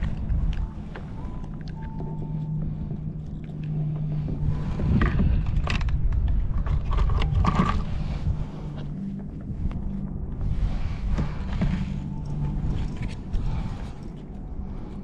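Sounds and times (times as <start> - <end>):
faint hum: 0.0 - 15.0
low steady rumble: 0.0 - 15.0.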